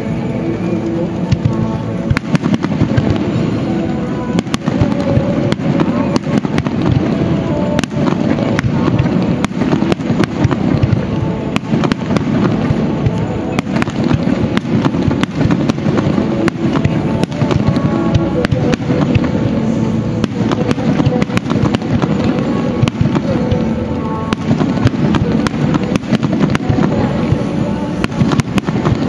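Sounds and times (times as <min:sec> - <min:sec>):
fireworks bursting and crackling: 0:00.0 - 0:29.0
music playing: 0:00.0 - 0:29.0.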